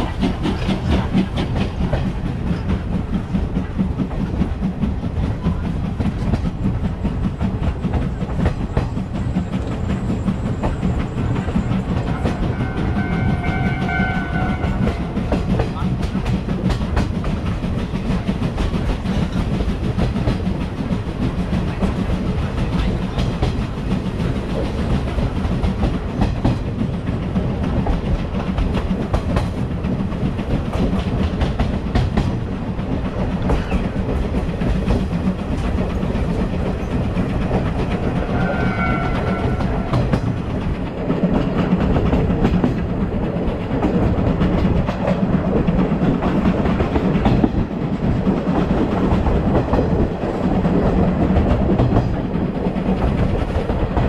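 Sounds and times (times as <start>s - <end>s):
low train rumble: 0.0s - 54.0s
train wheels clattering over rail joints: 0.0s - 54.0s.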